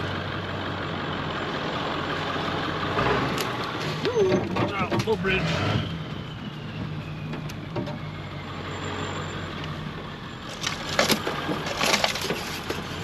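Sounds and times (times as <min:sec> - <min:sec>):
truck engine running low: 0:00.0 - 0:13.0.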